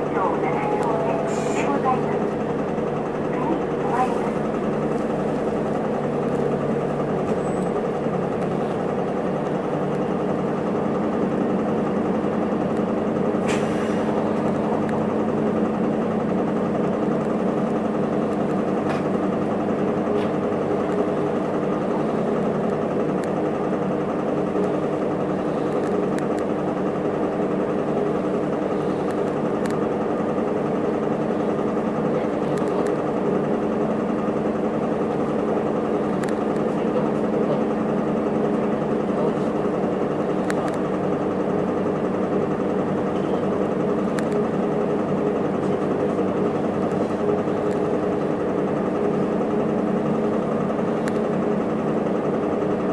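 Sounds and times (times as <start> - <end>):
bus diesel engine idling: 0.0 - 52.9.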